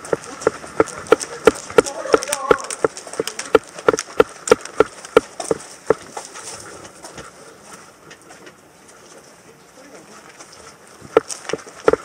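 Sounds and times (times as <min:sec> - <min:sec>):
running footsteps on gravel: 0:00.0 - 0:12.0.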